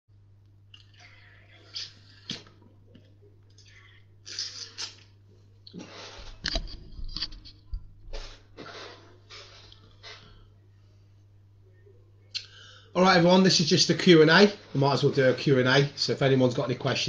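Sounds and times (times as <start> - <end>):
low electrical hum: 0.1 - 17.0.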